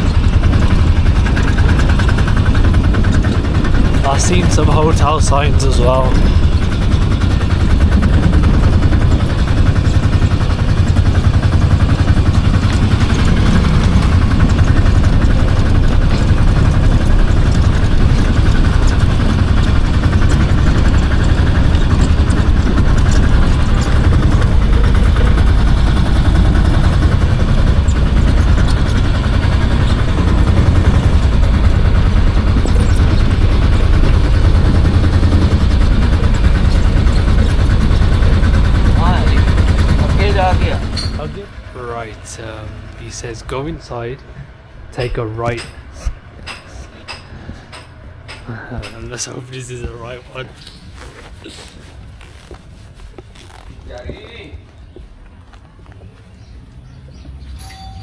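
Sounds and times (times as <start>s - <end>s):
small vehicle engine rumbling: 0.0s - 58.0s.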